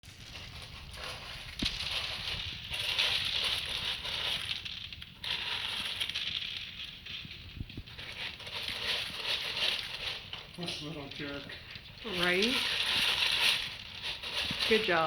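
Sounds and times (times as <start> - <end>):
ferret digging in food bowl: 0.0 - 15.0.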